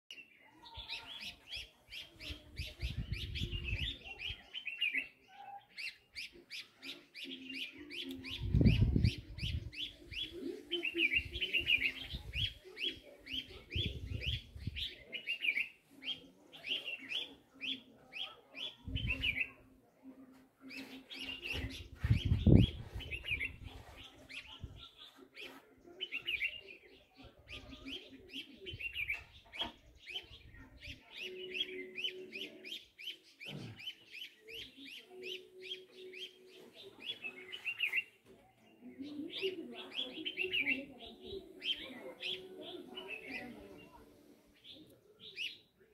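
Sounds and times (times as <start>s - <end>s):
small birds chirping: 0.1s - 45.9s.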